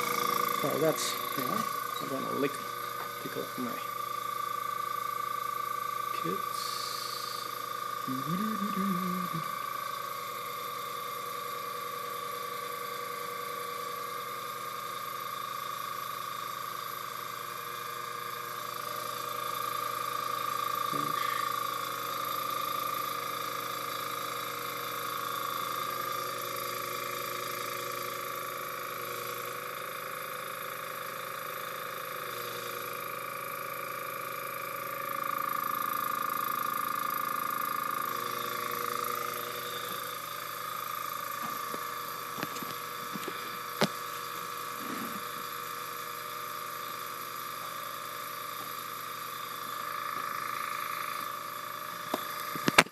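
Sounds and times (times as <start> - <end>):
airbrush compressor humming: 0.0 - 52.9.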